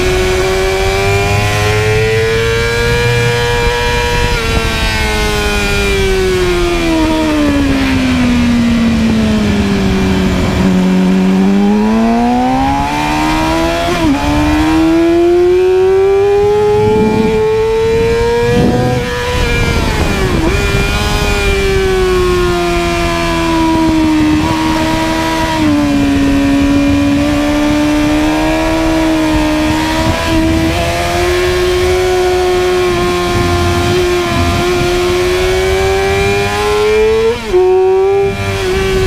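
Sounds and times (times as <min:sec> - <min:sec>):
sport bike engine revving: 0:00.0 - 0:39.0.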